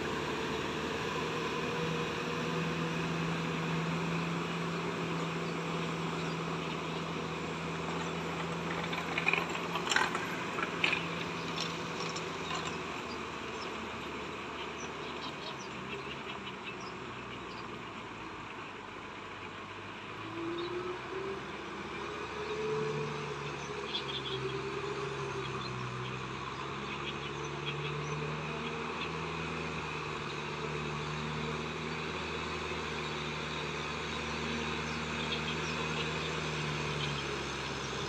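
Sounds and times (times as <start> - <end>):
tractor diesel engine running: 0.0 - 20.2, 21.0 - 38.0.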